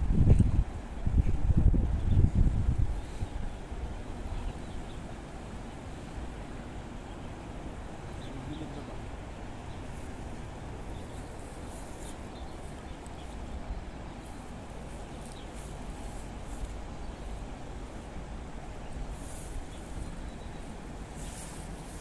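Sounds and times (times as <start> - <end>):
wind: 0.0 - 22.0
river flowing: 3.6 - 22.0.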